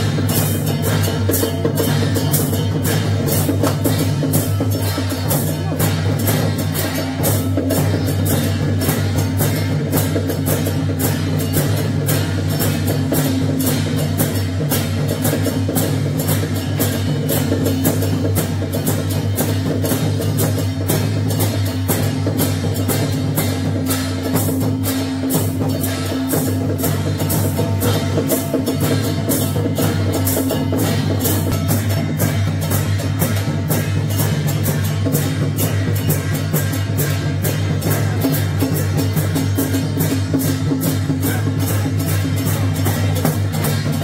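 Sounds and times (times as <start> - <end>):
cymbals struck: 0.0 - 44.0
drum beating: 0.0 - 44.0
gongs struck: 0.0 - 44.0.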